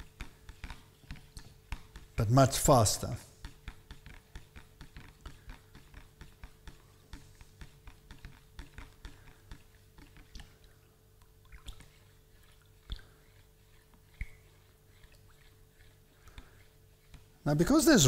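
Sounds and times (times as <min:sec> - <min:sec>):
spoon ticking against plastic jug: 0:00.0 - 0:02.2, 0:03.4 - 0:17.9.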